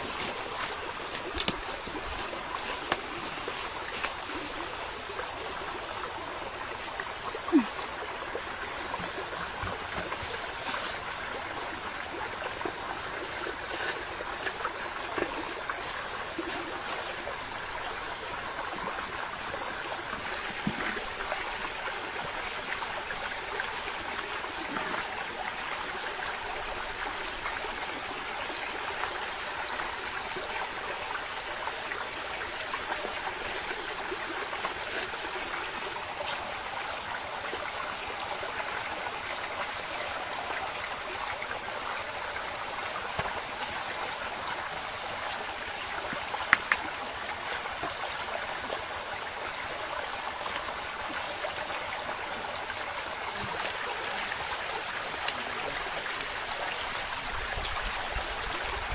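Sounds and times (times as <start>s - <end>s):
running water: 0.0s - 58.9s.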